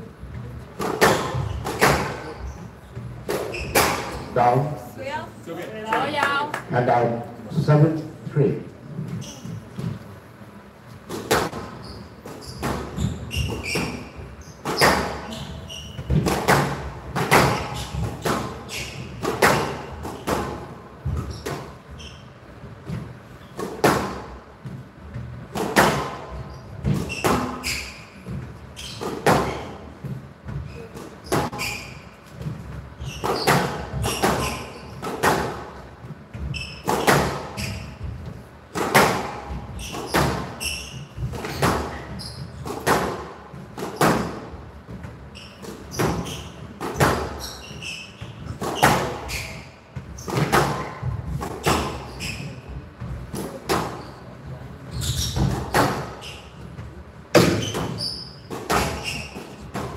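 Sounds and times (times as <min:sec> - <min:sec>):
court shoes squeaking: 0:00.0 - 0:06.5, 0:08.8 - 0:59.9.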